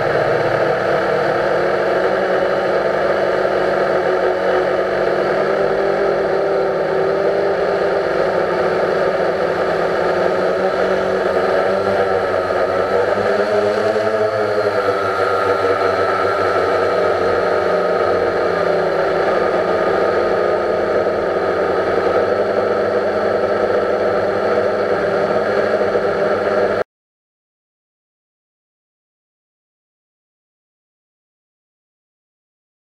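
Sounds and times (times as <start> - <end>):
drone motors whining: 0.0 - 26.8.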